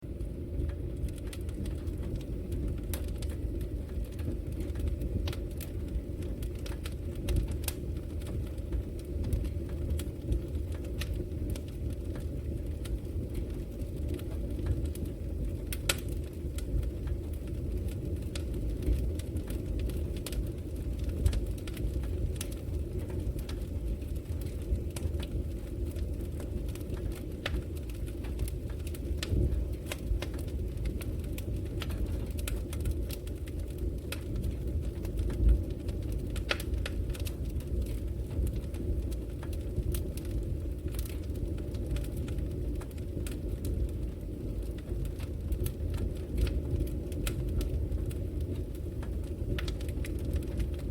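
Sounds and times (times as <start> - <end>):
fire crackling and popping: 0.0 - 50.9
wood fire rumbling: 0.0 - 50.9.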